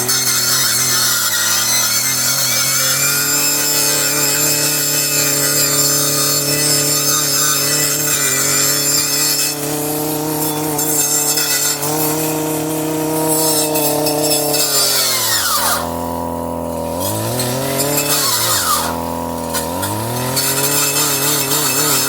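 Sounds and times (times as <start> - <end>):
circular saw cutting stems: 0.0 - 22.0.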